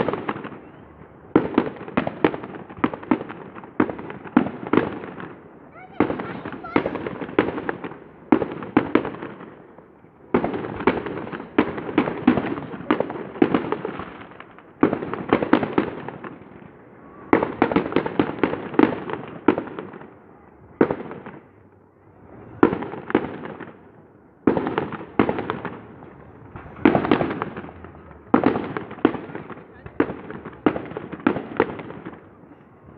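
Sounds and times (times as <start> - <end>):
fireworks bursting with rumble: 0.0 - 32.9.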